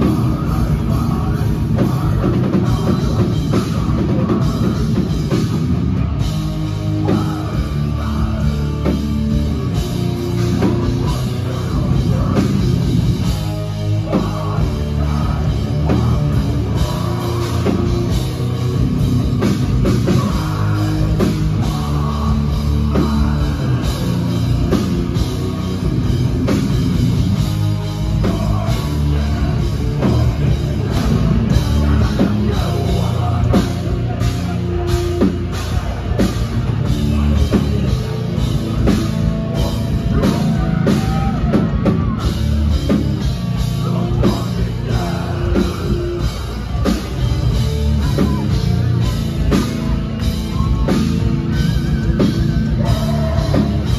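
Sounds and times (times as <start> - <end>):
distorted guitars: 0.0 - 53.9
fast pounding drums: 0.0 - 53.9
heavy metal band playing live: 0.0 - 53.9
vocalist singing: 0.0 - 53.9.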